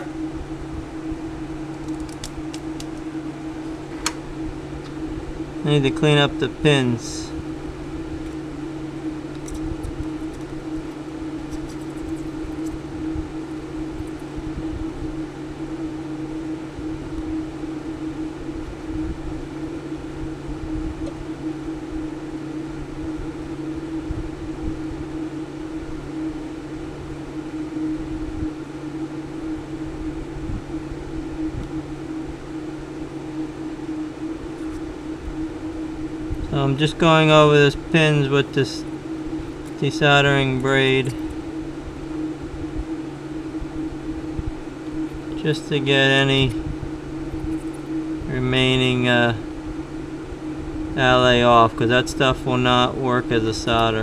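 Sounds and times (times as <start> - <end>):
electric fan humming: 0.0 - 54.0.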